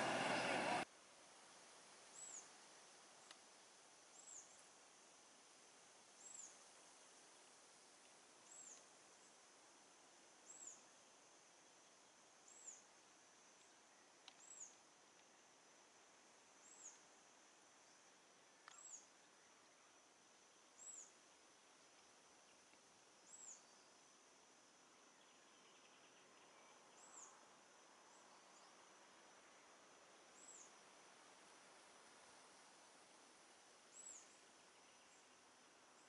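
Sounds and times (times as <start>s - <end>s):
faint hiss: 0.0s - 36.0s.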